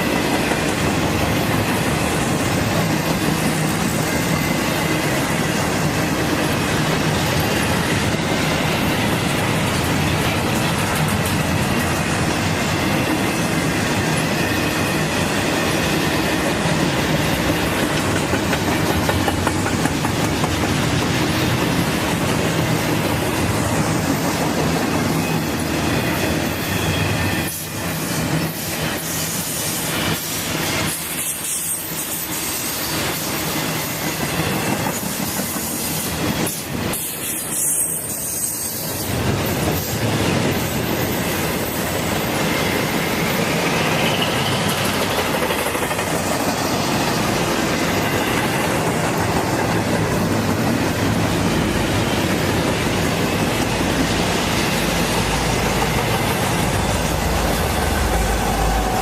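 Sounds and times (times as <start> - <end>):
train wheels on track: 0.0 - 59.0.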